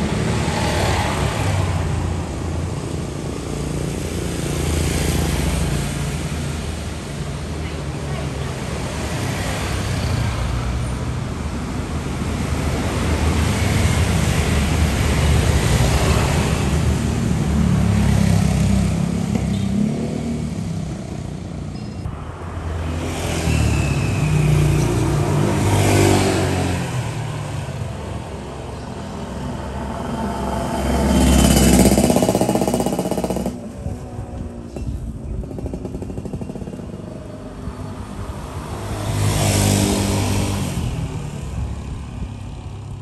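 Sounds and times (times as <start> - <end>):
motor vehicles passing: 0.0 - 43.0.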